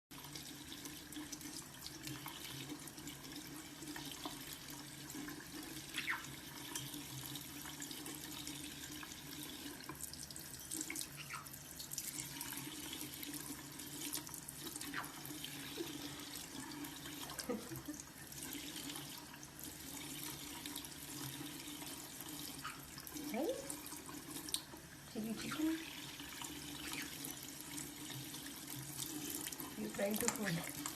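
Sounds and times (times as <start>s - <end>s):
tap water running and splashing: 0.1s - 30.9s
water drips: 0.2s - 30.9s.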